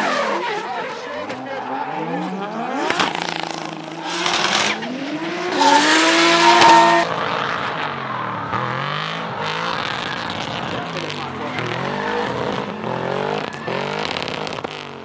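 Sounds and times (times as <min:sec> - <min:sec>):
car engine revving hard: 0:01.9 - 0:15.0.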